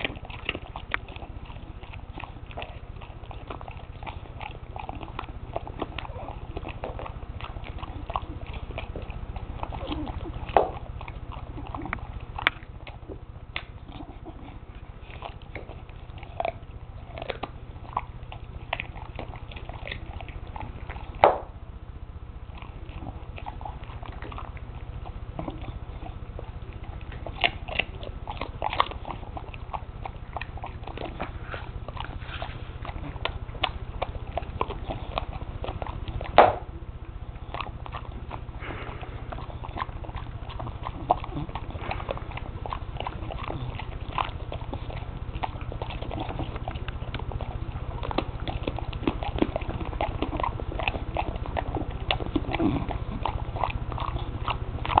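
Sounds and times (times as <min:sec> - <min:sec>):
dog crunching a carrot: 0:00.0 - 0:55.0
low hum: 0:00.0 - 0:55.0.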